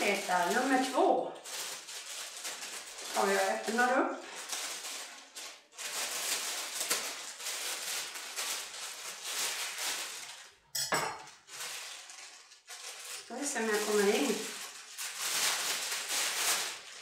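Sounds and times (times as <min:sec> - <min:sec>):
mailing bag rustling and crinkling: 0:00.0 - 0:17.0.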